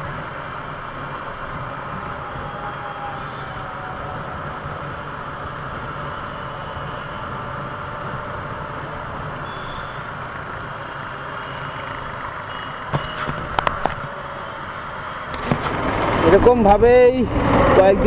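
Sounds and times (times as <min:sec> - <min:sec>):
motorcycle engine: 0:00.0 - 0:18.0
wind and road noise: 0:00.0 - 0:18.0.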